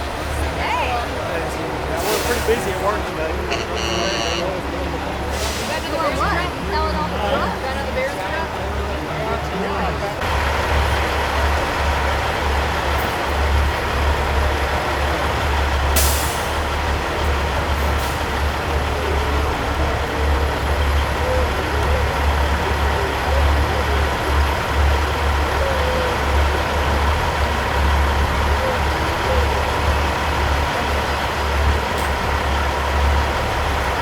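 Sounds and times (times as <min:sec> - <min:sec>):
diesel truck engines rumbling: 0:00.0 - 0:34.0.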